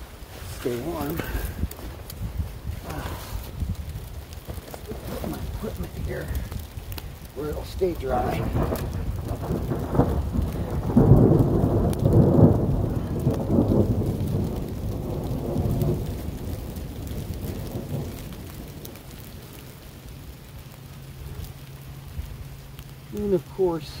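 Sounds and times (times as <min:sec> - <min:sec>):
thunder rolling: 0:00.0 - 0:19.6
heavy rain: 0:00.0 - 0:24.0
raindrops ticking close by: 0:00.0 - 0:24.0.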